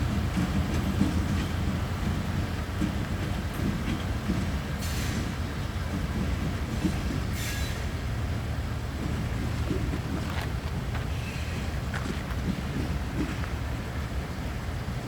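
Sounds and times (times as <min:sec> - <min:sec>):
wheels screeching on rails: 0:00.0 - 0:14.6
train rumbling: 0:00.0 - 0:15.0.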